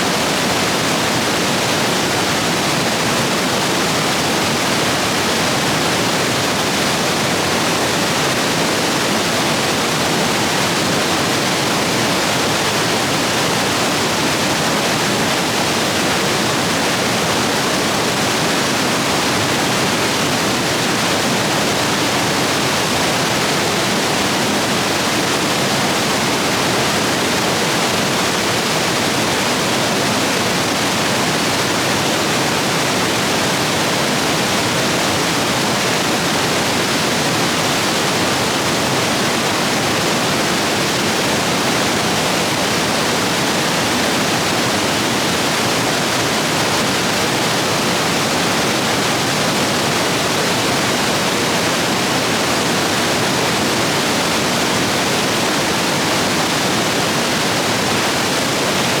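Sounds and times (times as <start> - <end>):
stream rapids roaring over rocks: 0.0 - 59.0.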